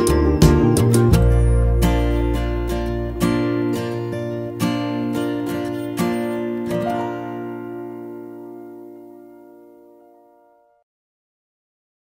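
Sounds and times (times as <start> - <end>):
guitar chords strummed: 0.0 - 10.7.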